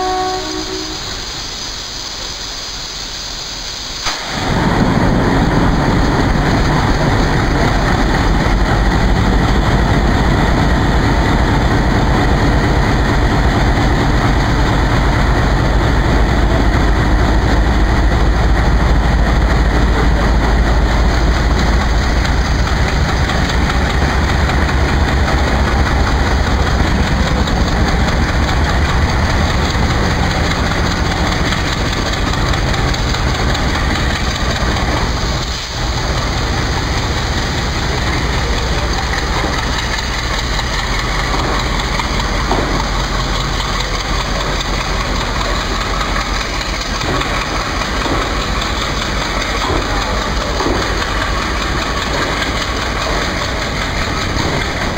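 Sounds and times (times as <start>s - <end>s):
diesel locomotive engine chugging: 0.0s - 54.9s.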